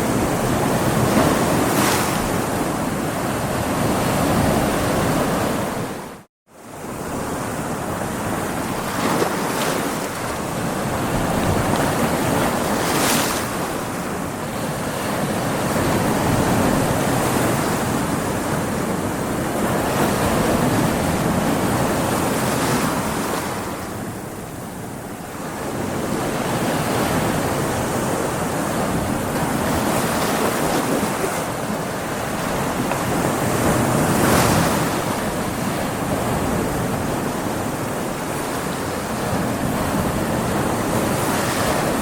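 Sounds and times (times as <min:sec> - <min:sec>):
ocean waves breaking against rocks: 0:00.1 - 0:06.1, 0:06.9 - 0:24.5, 0:25.4 - 0:42.0.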